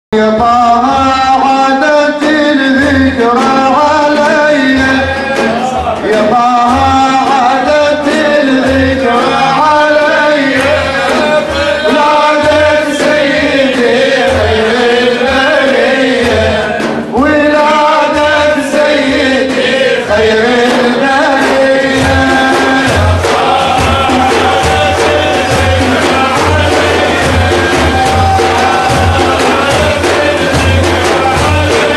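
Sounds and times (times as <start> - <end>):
men singing devotional song: 0.2 - 31.9
low drum beat: 0.4 - 31.9.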